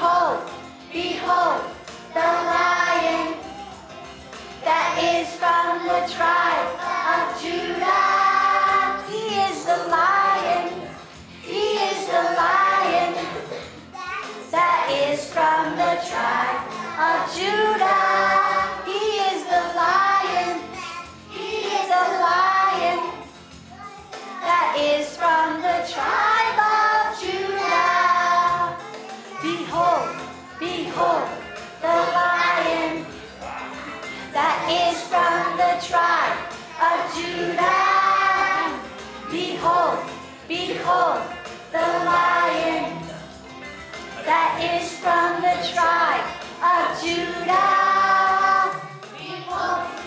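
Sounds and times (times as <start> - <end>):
children singing in unison: 0.0 - 3.7, 4.6 - 13.8, 14.5 - 23.3, 24.3 - 43.1, 44.2 - 50.0.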